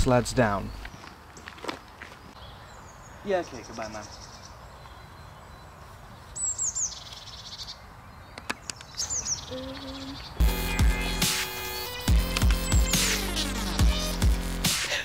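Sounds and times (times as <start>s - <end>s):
songbird chirping and trilling: 0.0s - 14.2s.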